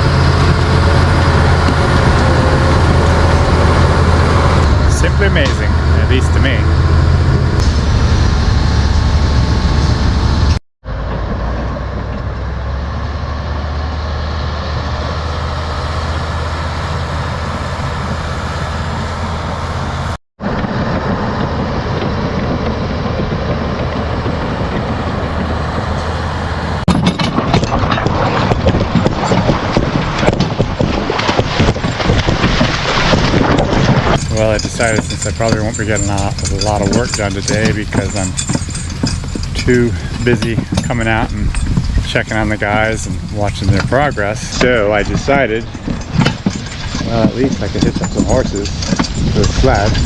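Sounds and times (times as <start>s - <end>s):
rattling and clattering: 0.0s - 12.5s, 15.0s - 50.0s
heavy machine engine humming: 0.0s - 50.0s.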